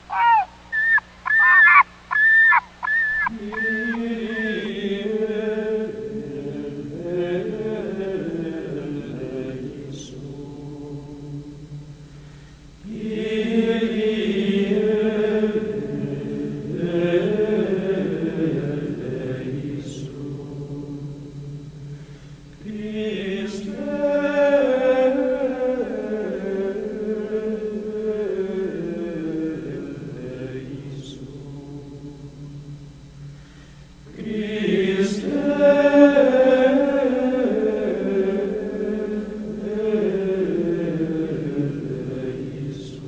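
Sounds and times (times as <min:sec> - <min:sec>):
voices chanting held notes: 0:00.0 - 0:43.0.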